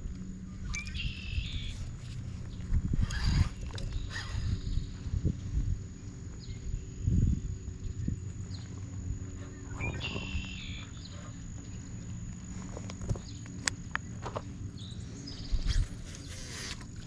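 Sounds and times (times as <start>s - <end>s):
low rumble: 0.0s - 16.2s.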